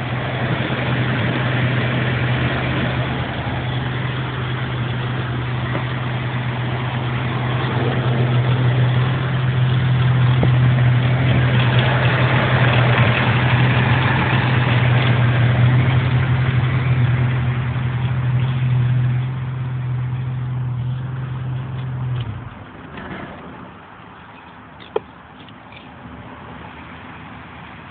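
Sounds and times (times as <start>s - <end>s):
engine exhaust idling: 0.0s - 25.9s.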